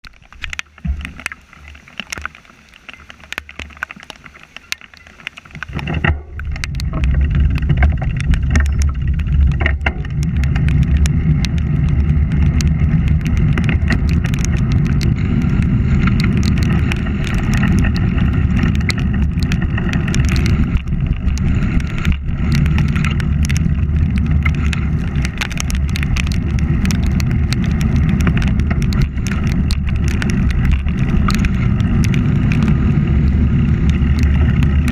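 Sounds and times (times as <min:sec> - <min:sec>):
wind rushing over microphone: 0:05.6 - 0:34.9
sharp ticks: 0:06.3 - 0:34.9.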